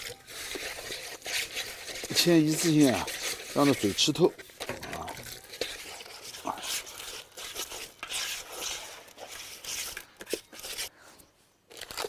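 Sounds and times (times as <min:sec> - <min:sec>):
hands scratching wet bait: 0:00.0 - 0:10.9.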